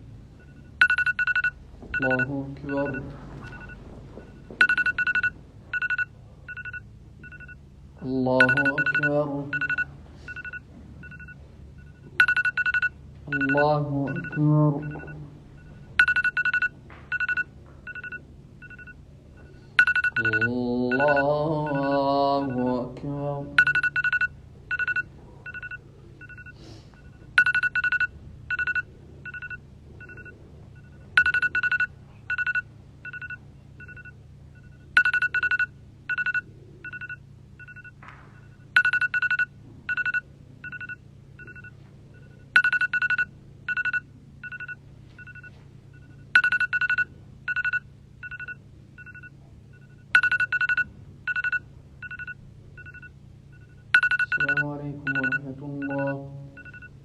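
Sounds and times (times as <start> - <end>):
low steady hum: 0.0 - 57.0
phone ringtone beeping: 0.4 - 7.6, 8.3 - 22.9, 23.6 - 57.0.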